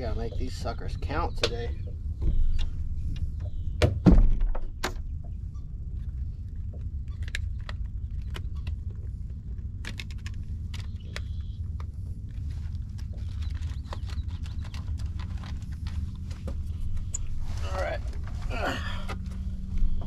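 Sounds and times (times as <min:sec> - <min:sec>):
low rumble: 0:00.0 - 0:20.0.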